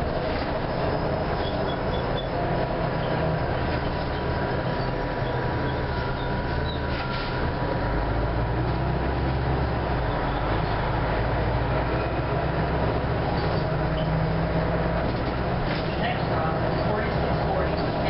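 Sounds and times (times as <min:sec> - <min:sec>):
bus diesel engine: 0:00.0 - 0:18.0
road noise: 0:00.0 - 0:18.0.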